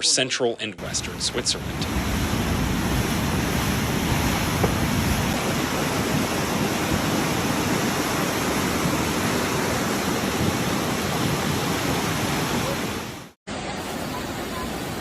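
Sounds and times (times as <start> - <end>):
floodwater rushing: 0.8 - 15.0.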